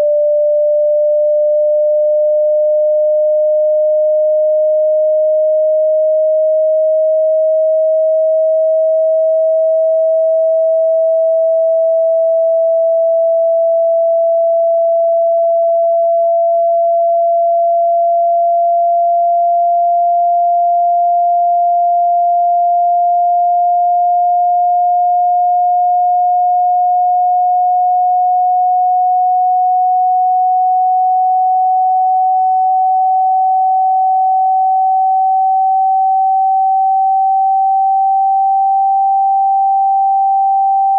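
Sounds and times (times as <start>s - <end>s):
rising sine tone: 0.0s - 40.9s.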